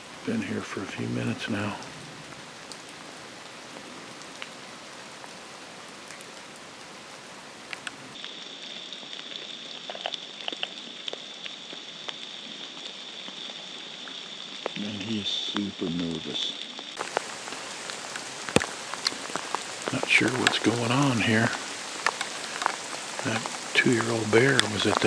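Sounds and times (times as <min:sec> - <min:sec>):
rain falling: 0:00.0 - 0:25.0
raindrop ticks: 0:00.0 - 0:25.0.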